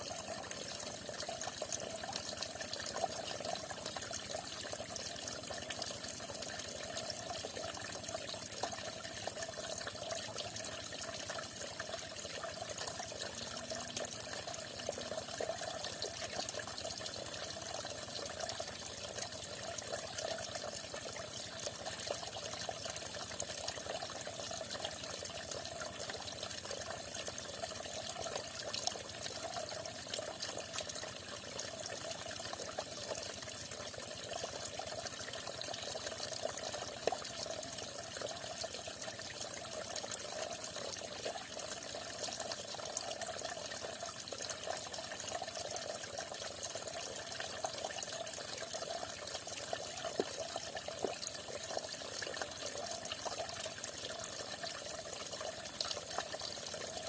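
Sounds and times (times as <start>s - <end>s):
water splashing and trickling: 0.0s - 57.0s.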